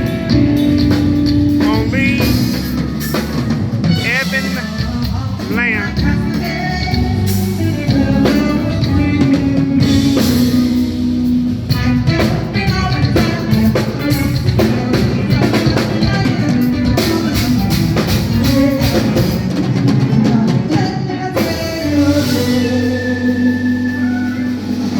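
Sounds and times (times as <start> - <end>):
drum kit beat: 0.0 - 24.9
live band playing: 0.0 - 24.9.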